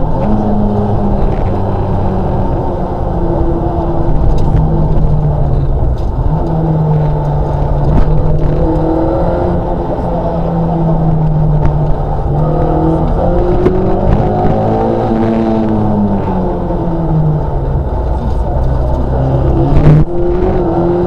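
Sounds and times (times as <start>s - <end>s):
rally car engine from inside cabin: 0.0s - 21.0s.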